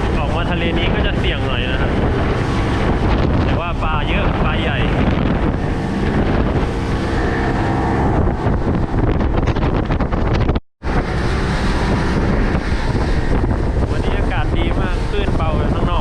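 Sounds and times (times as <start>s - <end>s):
motorboat engine drone: 0.0s - 16.0s
wind buffeting microphone: 0.0s - 16.0s.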